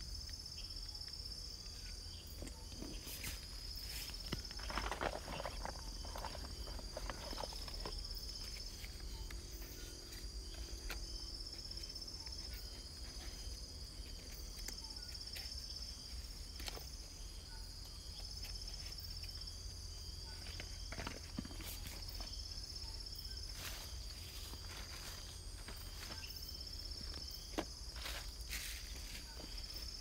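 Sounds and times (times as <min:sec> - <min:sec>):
night insects trilling: 0:00.0 - 0:30.0.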